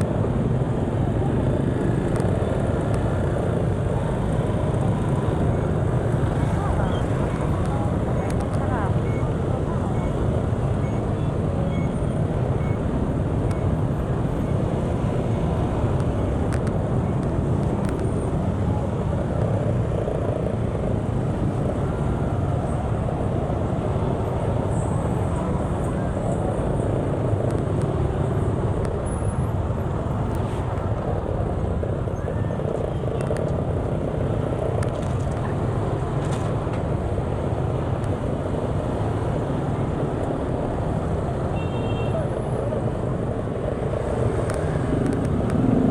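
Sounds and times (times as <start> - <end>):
vehicle engine and road rumble: 0.0 - 45.9.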